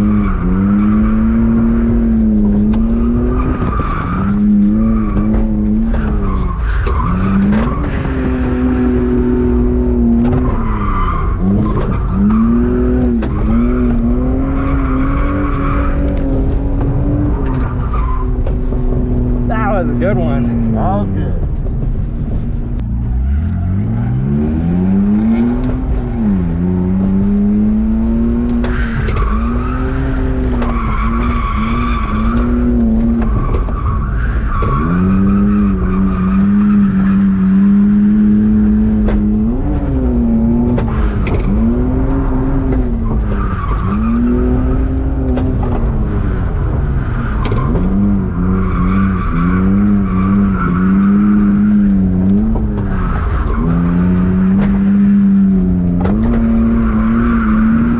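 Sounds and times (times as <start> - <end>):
tyre squeal: 0.0 - 8.9, 10.0 - 20.6, 28.0 - 38.3, 39.2 - 55.0, 55.9 - 57.9
car engine revving: 0.0 - 57.9.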